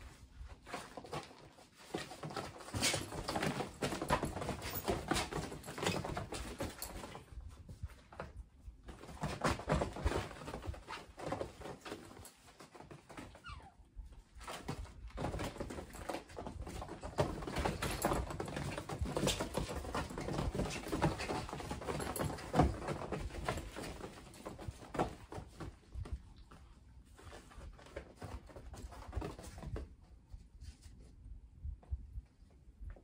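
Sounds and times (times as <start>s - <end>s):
kitten paws thumping and scrabbling: 0.0s - 33.0s.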